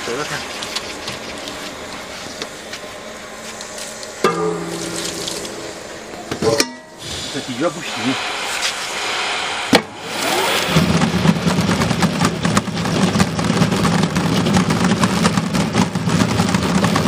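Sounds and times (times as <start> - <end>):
spinning motor whine and hum: 0.0 - 17.0.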